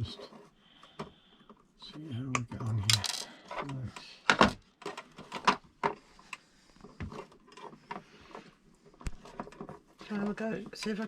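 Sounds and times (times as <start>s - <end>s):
hand tools and cable clicking: 0.8s - 11.0s.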